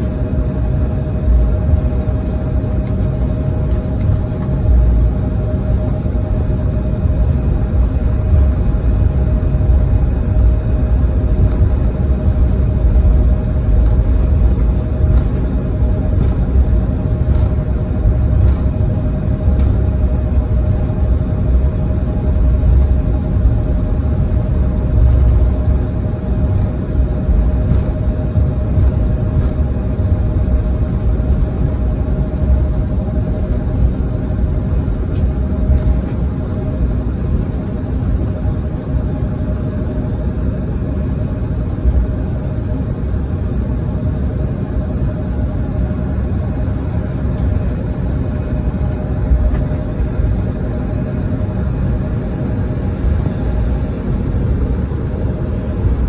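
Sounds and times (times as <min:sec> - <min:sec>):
airliner cabin rumble: 0:00.0 - 0:56.0
faint steady whine: 0:00.0 - 0:56.0.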